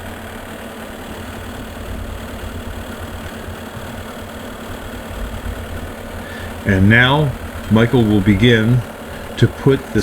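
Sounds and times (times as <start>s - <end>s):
loader engine humming: 0.0s - 10.0s.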